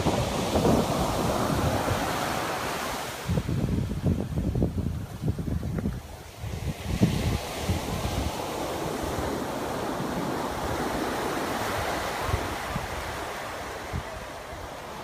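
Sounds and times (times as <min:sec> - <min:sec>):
ocean surf washing up beach: 0:00.0 - 0:15.0
wind buffeting microphone: 0:00.0 - 0:15.0.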